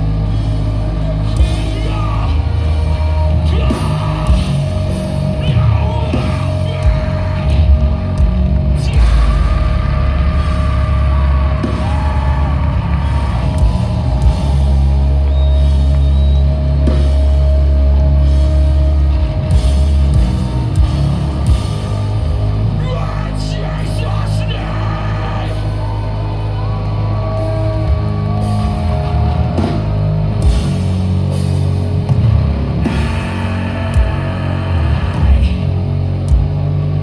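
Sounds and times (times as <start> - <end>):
guitar feedback tones: 0.0 - 37.0
heavy metal band playing live: 0.0 - 37.0.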